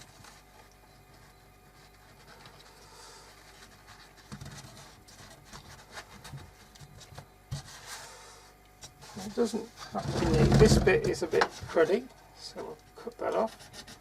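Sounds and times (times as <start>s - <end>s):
hands scratching and handling: 0.0s - 12.0s.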